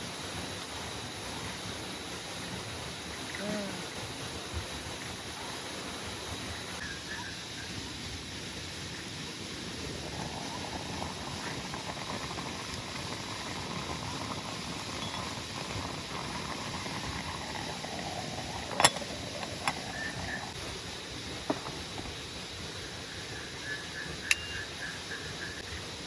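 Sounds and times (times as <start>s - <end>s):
steady watery hiss: 0.0s - 26.0s.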